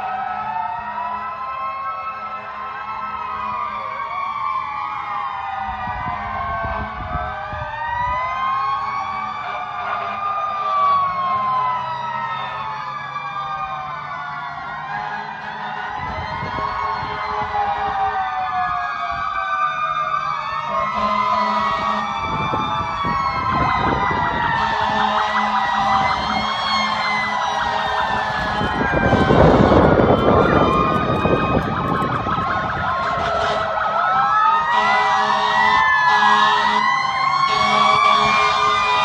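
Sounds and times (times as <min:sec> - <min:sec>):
fire engine sirens wailing: 0:00.0 - 0:39.0.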